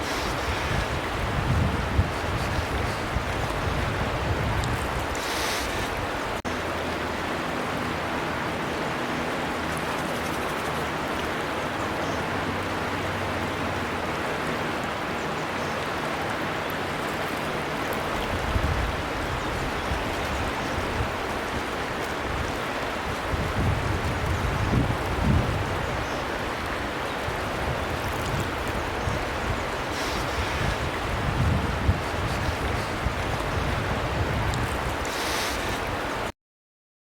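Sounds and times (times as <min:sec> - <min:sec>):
river water rushing: 0:00.0 - 0:36.3.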